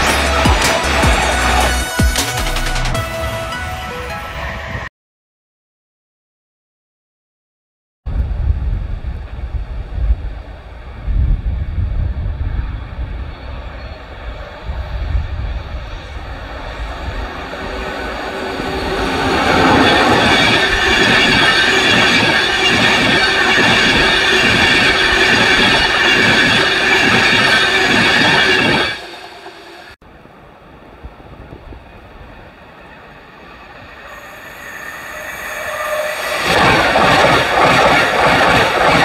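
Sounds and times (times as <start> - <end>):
second train passing: 0.0 - 4.9, 8.2 - 39.0
train passing at speed: 0.0 - 4.9, 8.2 - 39.0.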